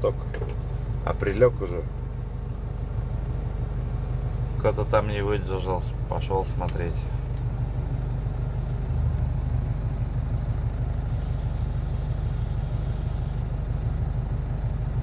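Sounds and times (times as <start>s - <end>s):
truck diesel engine humming: 0.0s - 15.0s.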